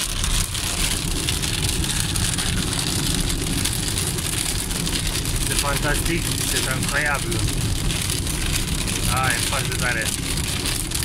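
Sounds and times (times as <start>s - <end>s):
heavy rain on car: 0.0s - 11.0s
tyre and road noise: 0.0s - 11.0s.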